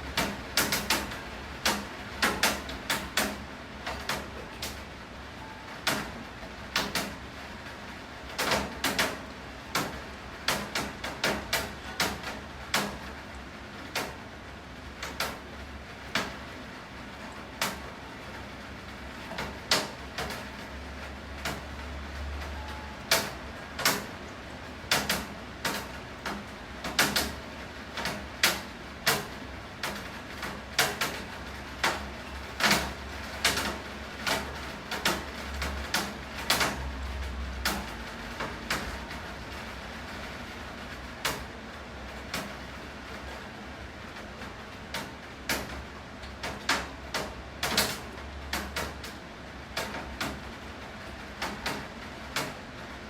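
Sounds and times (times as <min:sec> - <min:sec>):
faint rain hiss: 0:00.0 - 0:53.0.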